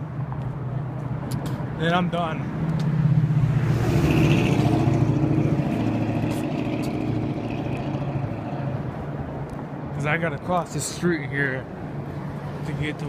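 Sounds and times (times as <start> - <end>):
vehicle passing on street: 0.0 - 13.0.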